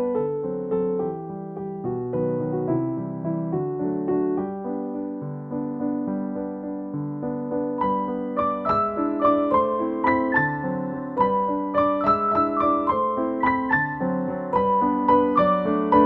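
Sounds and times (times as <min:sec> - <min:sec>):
gentle piano waltz: 0:00.0 - 0:16.0.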